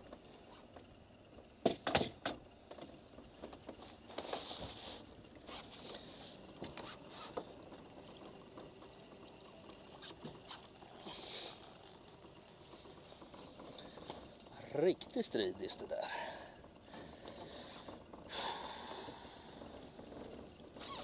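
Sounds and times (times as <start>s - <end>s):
knocks and clatter against boat: 1.6s - 21.0s.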